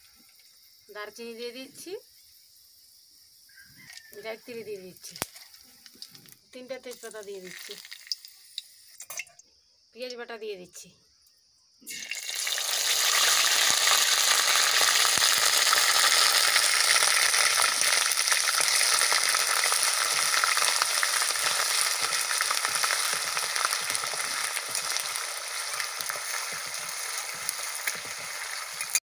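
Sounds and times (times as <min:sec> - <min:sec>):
onion paste sizzling in oil: 0:00.0 - 0:10.2, 0:11.6 - 0:29.0.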